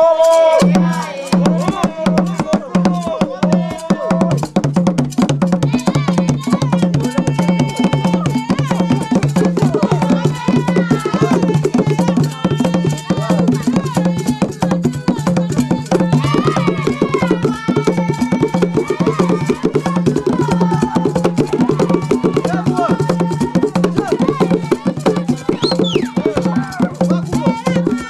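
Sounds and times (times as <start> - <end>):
voices singing: 0.0 - 4.6, 5.5 - 28.0
fast drumming on low drums: 0.6 - 28.0.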